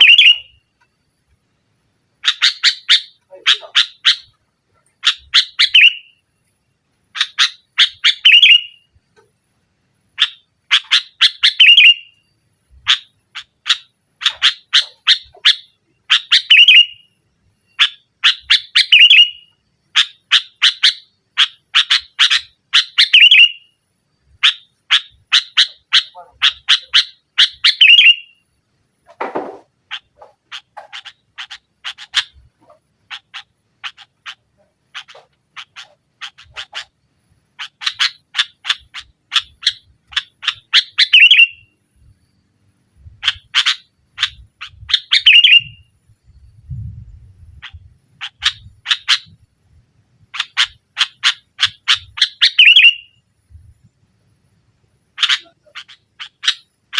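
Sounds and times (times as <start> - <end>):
bird chattering calls: 0.0 - 0.6, 2.2 - 6.2, 7.1 - 8.8, 10.2 - 12.2, 12.8 - 17.1, 17.8 - 23.6, 24.4 - 28.4, 29.0 - 41.8, 43.1 - 49.4, 50.3 - 53.2, 55.2 - 56.9.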